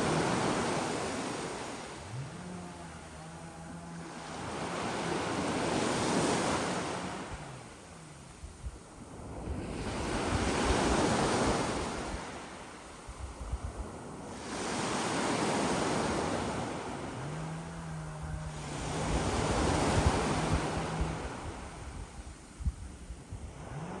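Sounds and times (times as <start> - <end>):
waves washing onto beach: 0.0 - 24.0
wind buffeting microphone: 0.0 - 24.0.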